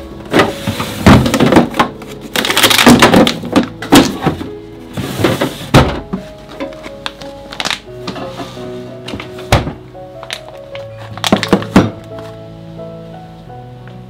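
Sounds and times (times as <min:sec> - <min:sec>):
soft piano music: 0:00.0 - 0:14.0
plastic containers knocking and scraping: 0:00.3 - 0:12.1.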